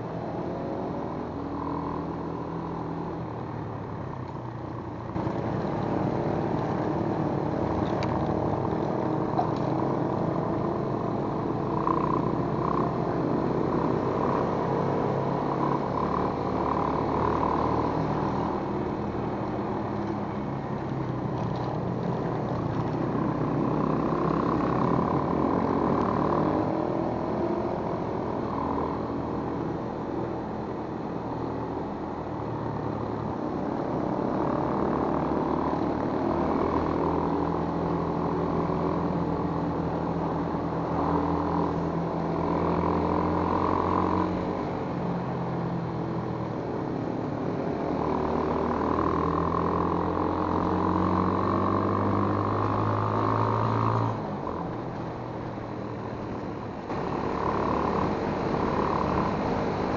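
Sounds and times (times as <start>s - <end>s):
motorcycle engine revving: 0.0s - 59.9s
road noise: 0.0s - 59.9s.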